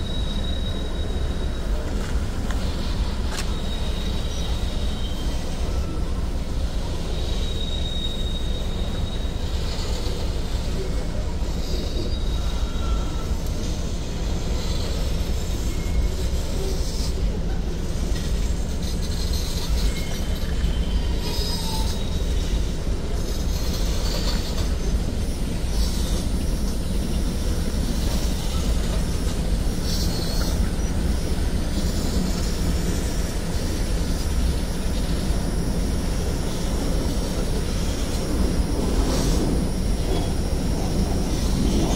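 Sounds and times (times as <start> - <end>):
high-pitched wheel squeals: 0.0 - 17.3, 18.1 - 26.8, 27.5 - 41.9
freight train rolling past: 0.0 - 41.9.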